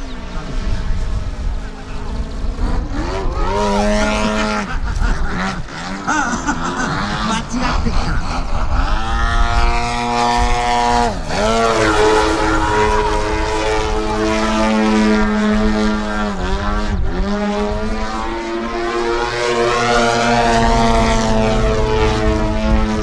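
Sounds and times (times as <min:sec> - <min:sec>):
model airplane engine and propeller: 0:00.0 - 0:23.0.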